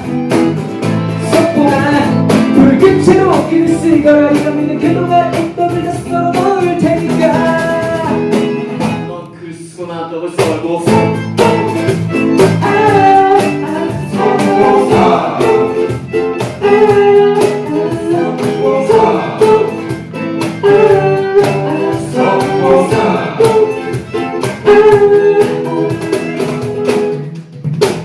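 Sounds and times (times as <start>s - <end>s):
live rock band playing: 0.0s - 9.3s, 10.4s - 28.0s.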